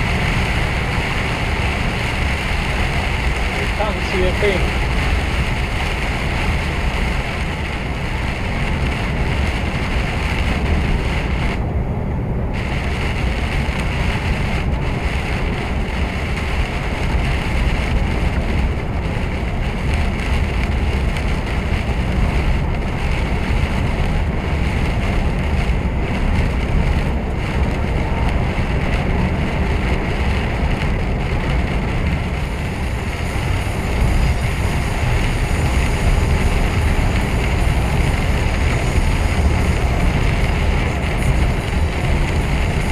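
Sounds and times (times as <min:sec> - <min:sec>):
lorry engine and road noise: 0:00.0 - 0:42.9.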